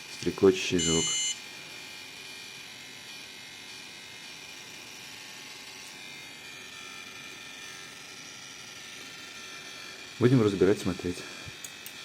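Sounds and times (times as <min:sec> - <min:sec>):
cooler pump chirring buzz: 0:00.0 - 0:12.0.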